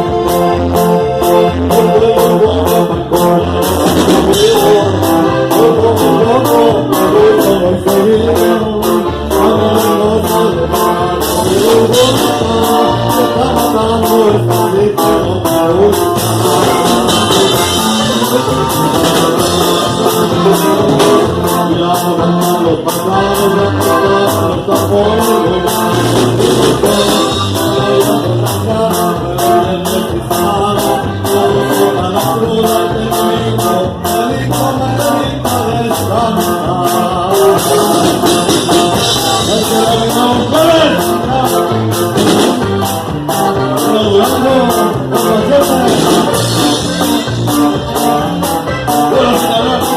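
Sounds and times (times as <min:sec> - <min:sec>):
brass band music: 0:00.0 - 0:49.9
person singing: 0:00.0 - 0:49.9.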